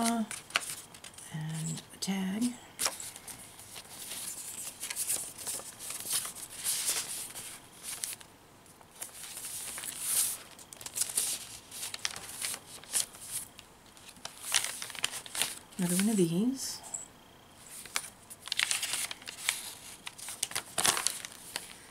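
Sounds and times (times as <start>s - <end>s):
paper rustling and crinkling: 0.0s - 1.8s, 2.8s - 16.3s, 17.7s - 21.9s.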